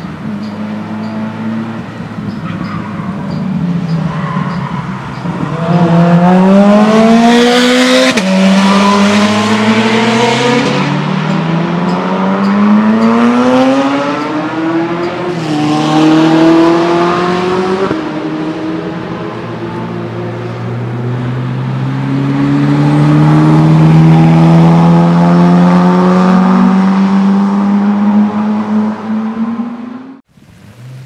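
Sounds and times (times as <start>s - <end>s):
sports car engine accelerating: 5.2s - 30.2s.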